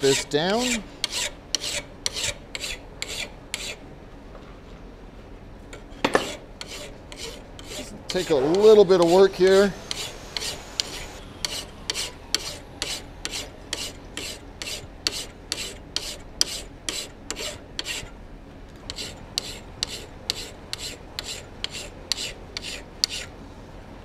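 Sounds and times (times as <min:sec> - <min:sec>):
hand file rasping on steel: 0:00.0 - 0:03.8, 0:06.2 - 0:18.1, 0:18.9 - 0:23.3.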